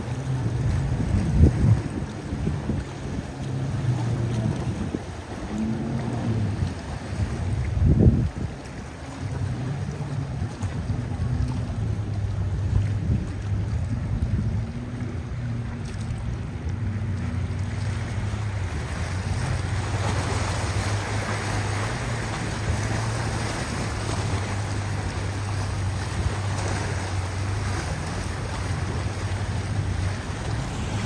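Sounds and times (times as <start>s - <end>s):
boat engines droning: 0.0s - 31.0s
wind and waves hissing: 0.0s - 31.0s.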